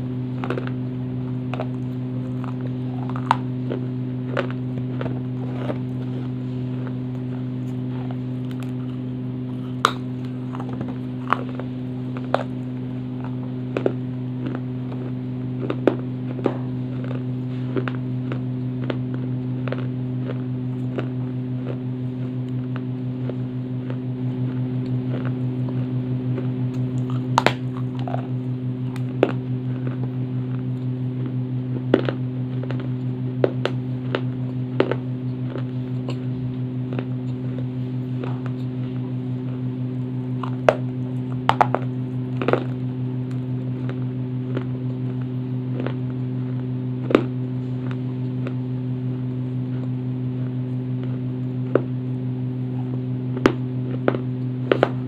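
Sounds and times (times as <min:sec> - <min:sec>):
steady low hum: 0:00.0 - 0:55.0
clay crunching in mouth: 0:00.1 - 0:55.0.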